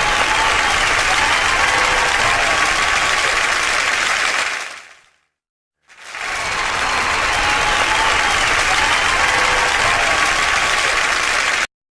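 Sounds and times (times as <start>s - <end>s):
audience applauding: 0.0s - 5.2s, 5.8s - 11.7s.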